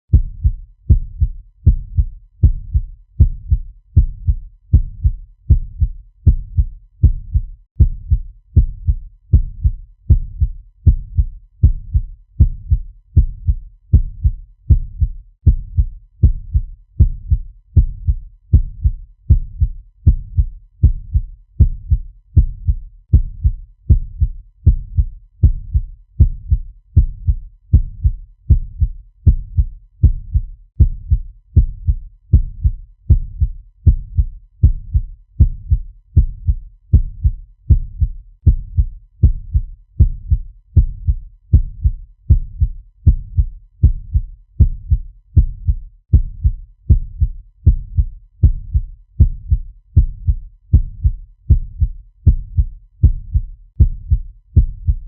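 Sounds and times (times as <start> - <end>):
heartbeat thumps: 0.1 - 55.0.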